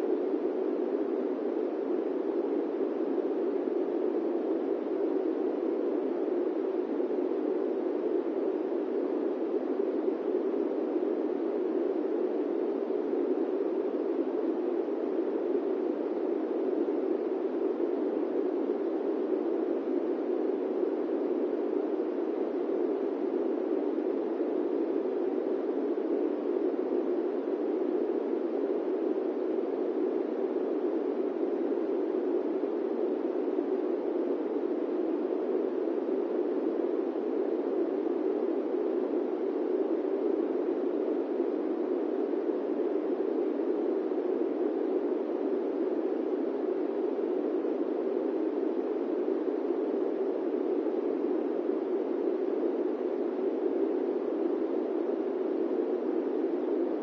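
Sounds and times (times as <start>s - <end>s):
airplane cabin white noise: 0.0s - 57.0s.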